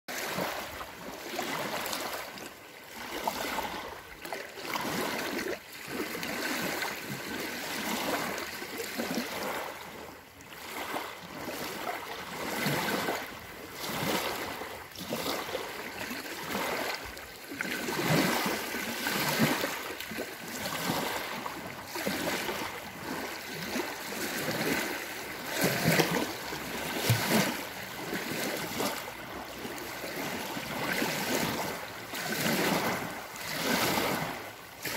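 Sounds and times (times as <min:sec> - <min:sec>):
lake waves lapping on shore: 0:00.1 - 0:34.9.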